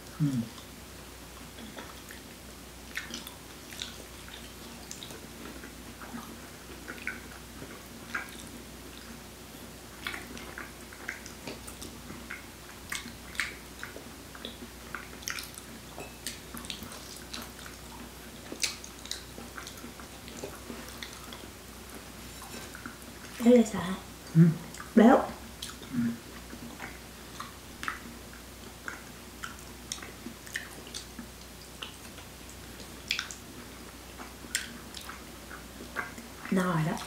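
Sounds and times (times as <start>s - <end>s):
faint steady hum: 0.0s - 37.0s
wet chewing and lip smacks: 1.4s - 9.2s, 10.0s - 22.0s, 24.2s - 25.0s, 25.6s - 36.5s.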